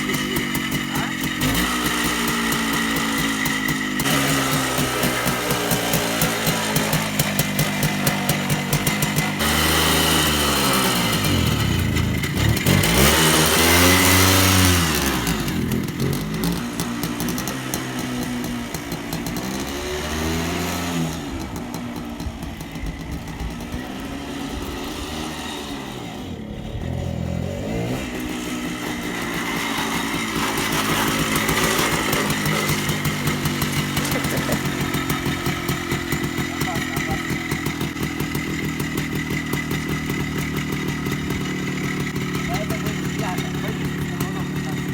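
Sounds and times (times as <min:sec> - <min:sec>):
motorcycle two-stroke engine revving: 0:00.0 - 0:44.9.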